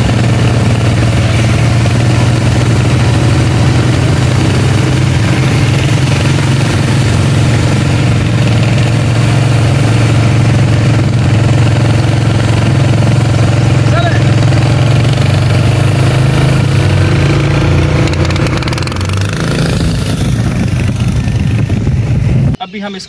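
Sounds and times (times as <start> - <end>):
small engine running steadily: 0.0 - 22.6.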